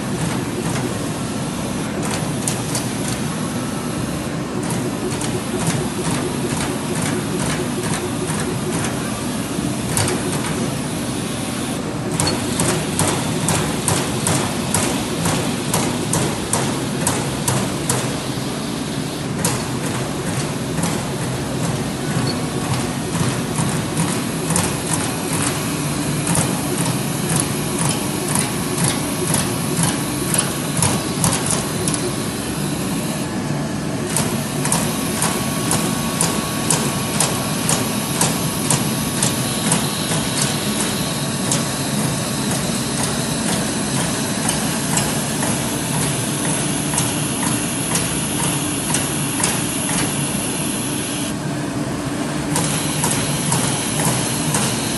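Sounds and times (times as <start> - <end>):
machine running hum: 0.0 - 54.9.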